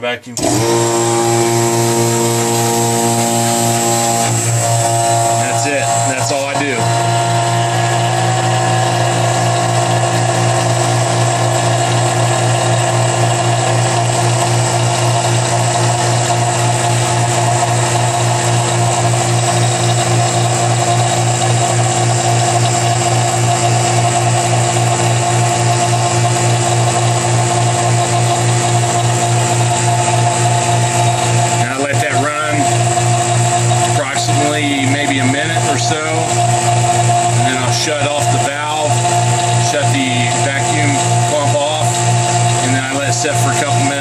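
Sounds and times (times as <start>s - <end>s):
vacuum pump humming: 0.3s - 44.0s.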